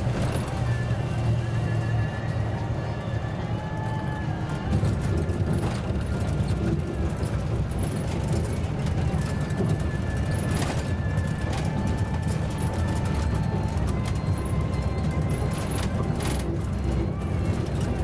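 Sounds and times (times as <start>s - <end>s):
bus body rattling: 0.0s - 18.0s
bus engine drone: 0.0s - 18.0s.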